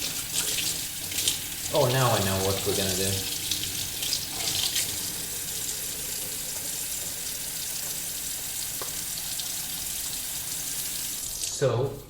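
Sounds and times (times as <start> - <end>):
tap water running into sink: 0.0 - 11.7.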